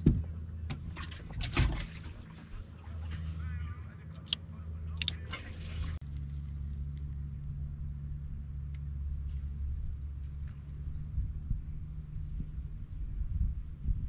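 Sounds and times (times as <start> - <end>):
outboard boat engine droning: 0.0 - 14.0.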